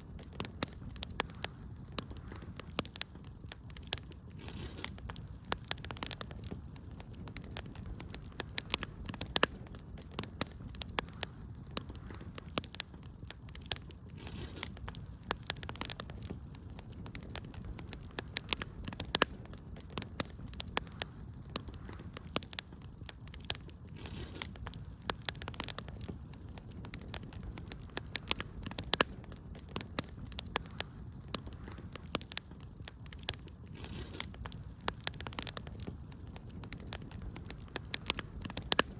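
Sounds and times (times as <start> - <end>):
low rumble of flames: 0.0 - 38.9
sharp pops and snaps: 0.0 - 38.9
wood fire crackling: 0.0 - 38.9.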